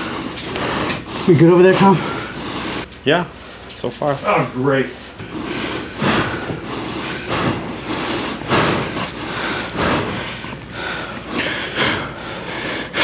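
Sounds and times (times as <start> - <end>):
heavy rapid breathing: 0.0 - 13.0.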